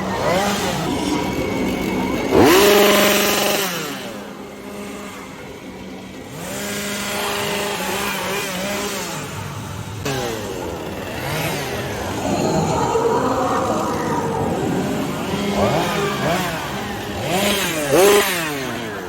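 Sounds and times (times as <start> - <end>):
chainsaw engine idling and revving: 0.0 - 19.0.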